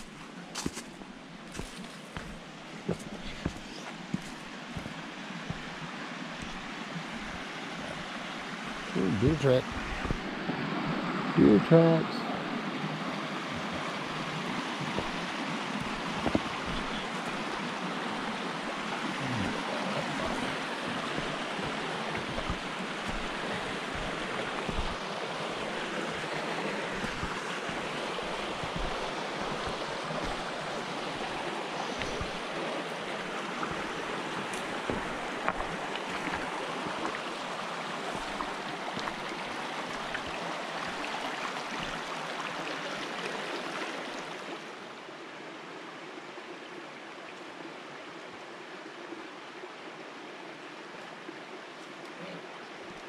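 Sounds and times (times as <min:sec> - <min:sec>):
creek rushing over rocks: 0:00.0 - 0:53.0.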